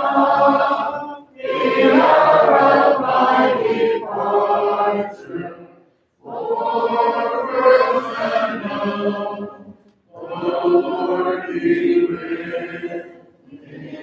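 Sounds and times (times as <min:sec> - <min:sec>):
congregation singing a hymn: 0:00.0 - 0:14.0.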